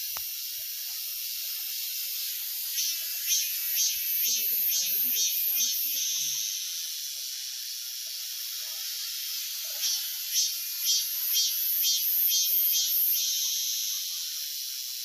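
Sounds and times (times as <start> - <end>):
cicadas buzzing: 0.0 - 15.0
pulsing cicada call: 0.0 - 15.0.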